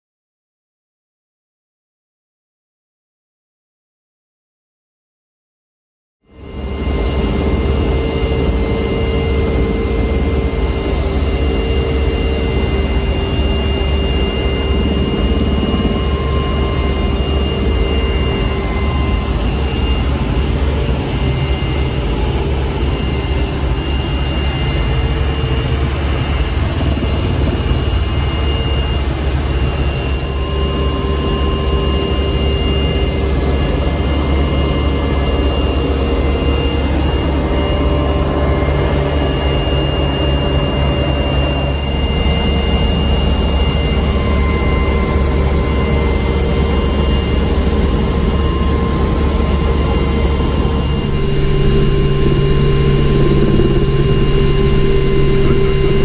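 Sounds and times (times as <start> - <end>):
helicopter cabin drone: 6.2 - 56.0
high engine whine: 6.3 - 56.0.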